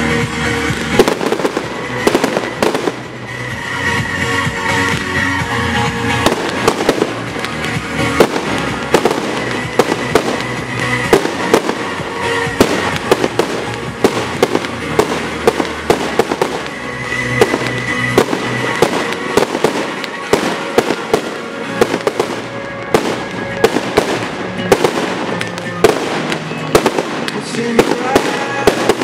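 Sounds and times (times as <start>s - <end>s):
music playing: 0.0s - 29.0s
firework shells bursting: 0.7s - 5.4s, 6.1s - 29.0s.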